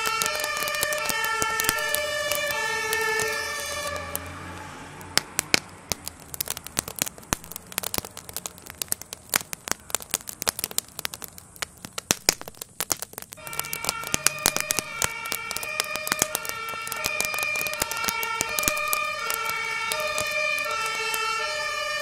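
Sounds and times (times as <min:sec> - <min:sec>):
burning shed crackling and popping: 0:00.0 - 0:22.0.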